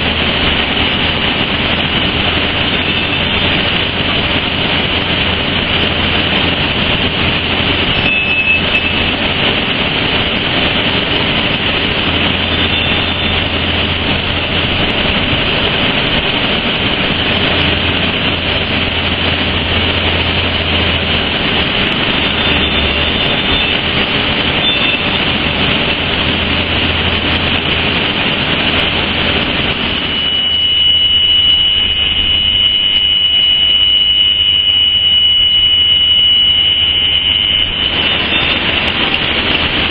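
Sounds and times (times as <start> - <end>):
high steady squeal: 0.0 - 39.9
steam hissing: 0.0 - 39.9.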